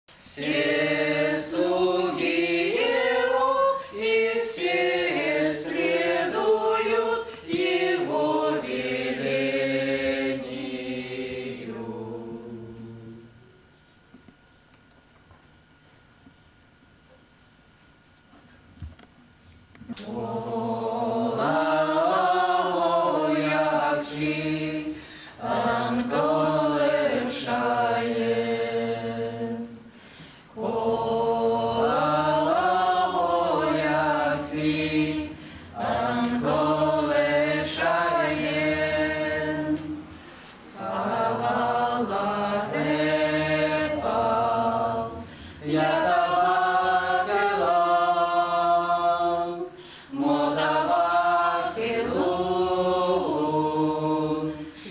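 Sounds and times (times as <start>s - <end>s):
group singing unaccompanied: 0.1s - 13.6s, 19.9s - 54.9s.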